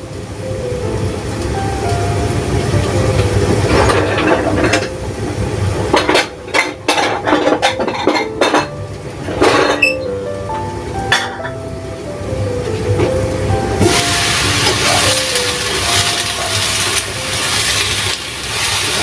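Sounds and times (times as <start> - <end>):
frying sizzle: 0.0 - 19.0.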